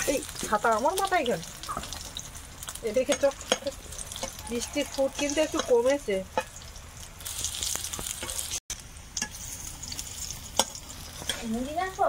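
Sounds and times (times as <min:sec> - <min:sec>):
hot oil sizzling in a frying pan: 0:00.0 - 0:12.0.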